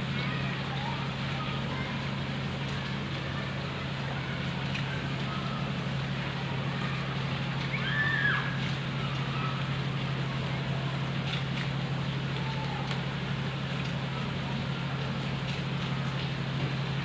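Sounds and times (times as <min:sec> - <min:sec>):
low constant hum: 0:00.0 - 0:17.0
rain hissing: 0:00.0 - 0:17.0.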